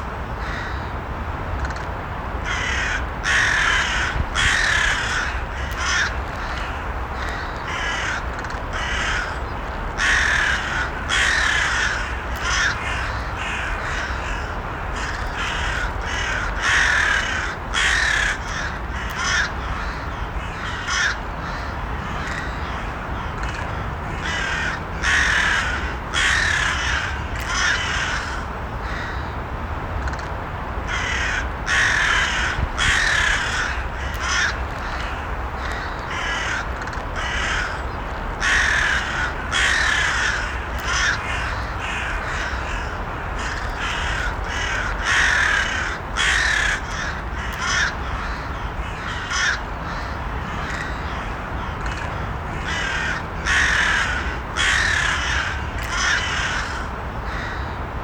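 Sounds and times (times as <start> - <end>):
low background noise: 0.0 - 58.0
crows cawing: 0.4 - 0.9, 2.4 - 29.3, 30.9 - 57.8.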